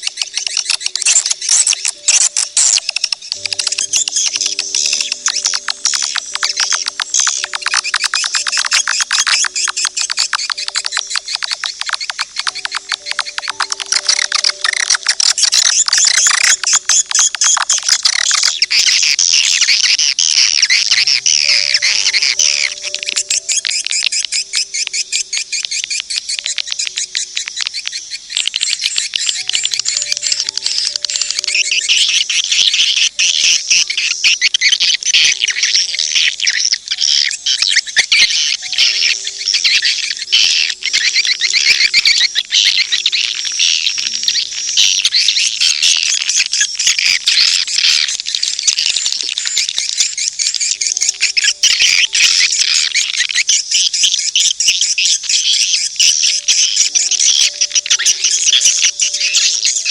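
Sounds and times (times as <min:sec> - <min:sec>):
swiftlet twittering: 0:00.0 - 0:59.9.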